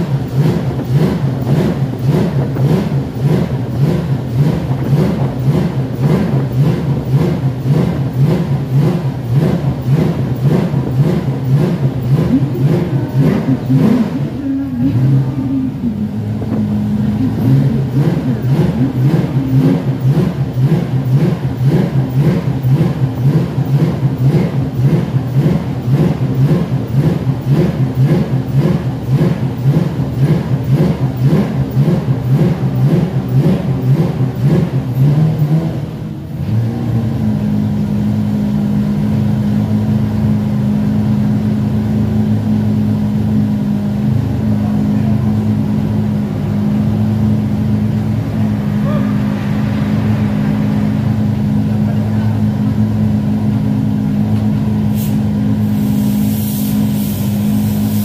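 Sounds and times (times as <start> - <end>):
race engine revving and idling: 0.0 - 58.0.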